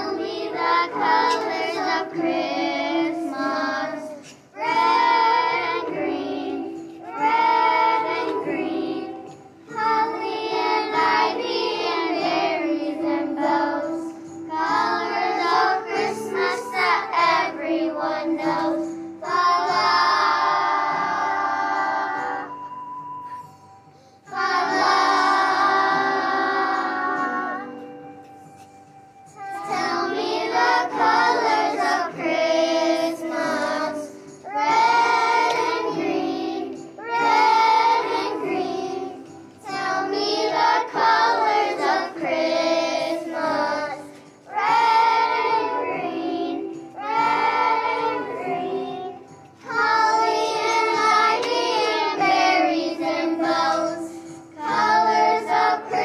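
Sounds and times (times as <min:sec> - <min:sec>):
children singing in unison: 0:00.0 - 0:22.8, 0:24.3 - 0:28.1, 0:29.3 - 0:56.0.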